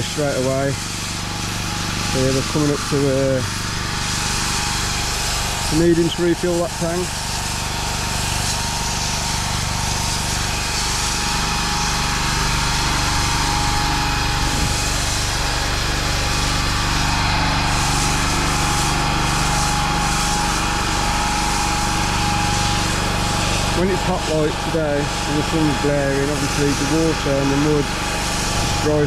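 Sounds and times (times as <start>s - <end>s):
pressure washer engine running: 0.0s - 29.0s
water jet hissing on paving: 0.0s - 29.0s.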